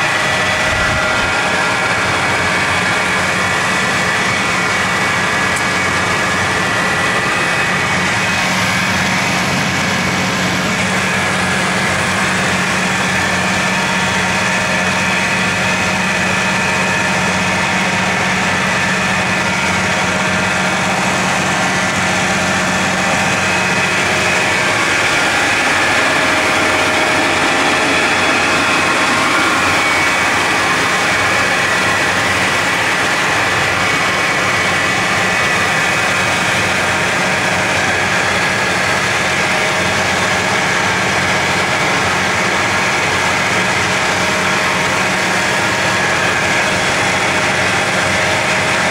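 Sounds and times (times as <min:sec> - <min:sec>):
machine humming and whining: 0:00.0 - 0:48.9.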